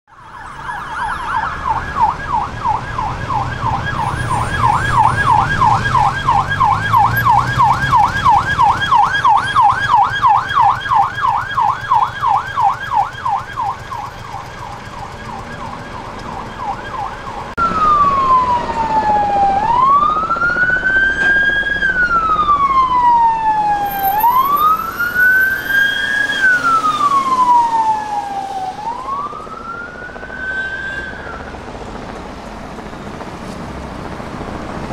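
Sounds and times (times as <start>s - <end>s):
emergency siren yelp: 0.1s - 34.8s
emergency siren wail: 0.1s - 34.9s.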